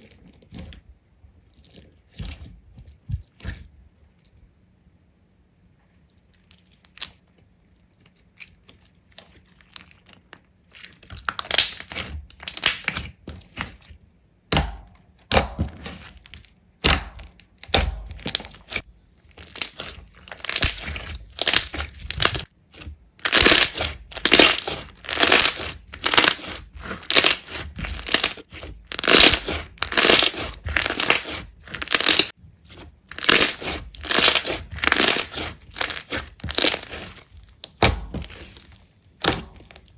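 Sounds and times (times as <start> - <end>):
slime squishing: 0.0 - 4.4, 6.0 - 39.9.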